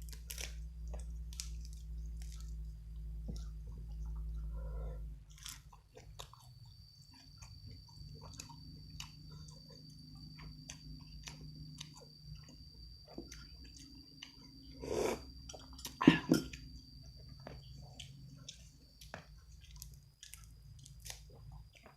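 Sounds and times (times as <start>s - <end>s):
mouth chewing food: 0.0s - 21.9s.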